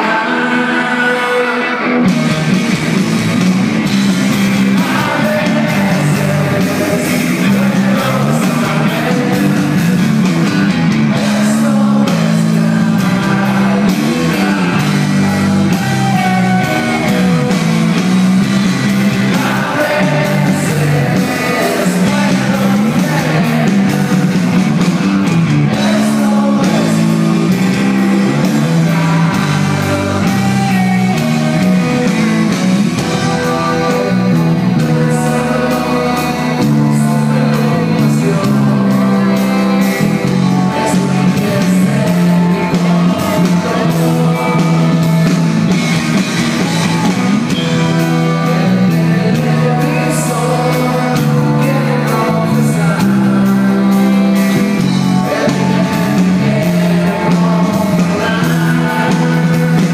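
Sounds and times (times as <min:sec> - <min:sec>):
lead vocal singing: 0:00.0 - 0:59.9
rock band playing: 0:00.0 - 0:59.9.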